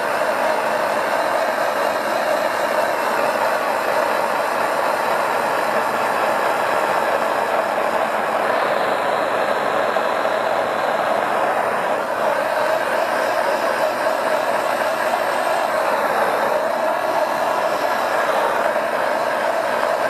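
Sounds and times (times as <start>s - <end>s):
propane torch flame hissing: 0.0s - 20.0s.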